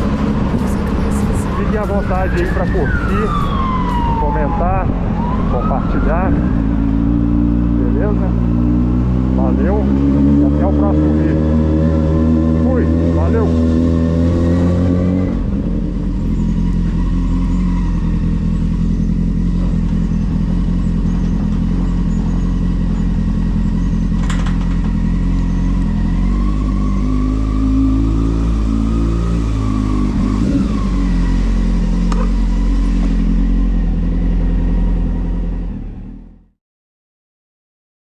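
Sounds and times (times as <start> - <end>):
motorcycle engine running: 0.0 - 4.4, 6.6 - 36.5.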